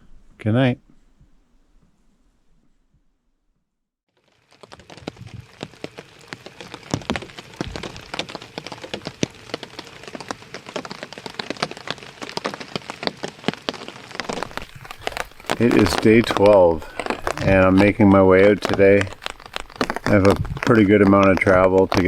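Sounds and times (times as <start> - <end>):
rain drops pattering: 4.1 - 22.0.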